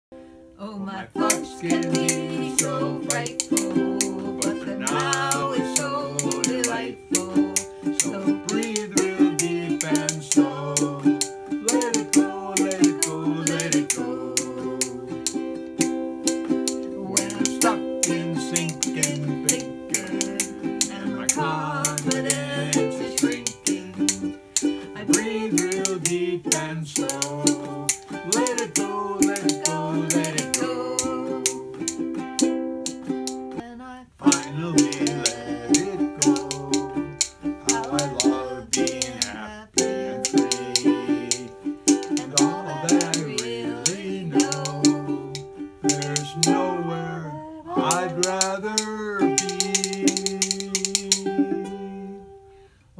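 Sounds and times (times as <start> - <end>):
man and woman singing: 0.6 - 32.0, 33.4 - 52.6
strummed ukulele: 0.9 - 52.6
rhythm bones clicking: 1.2 - 33.6, 34.2 - 46.8, 47.8 - 51.4.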